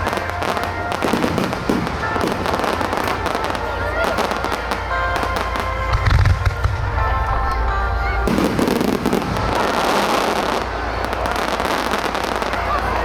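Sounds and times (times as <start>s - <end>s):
aerial fireworks bursting: 0.0s - 7.6s, 8.2s - 13.0s
music over loudspeakers: 0.0s - 13.0s.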